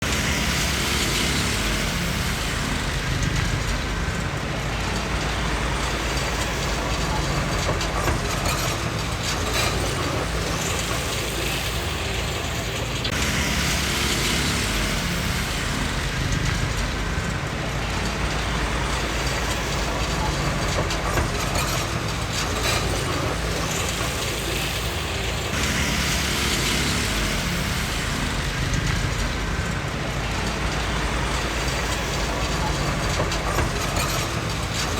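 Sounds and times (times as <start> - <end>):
bulldozer diesel engine under load: 0.0 - 34.9
machine clanking: 1.3 - 34.9.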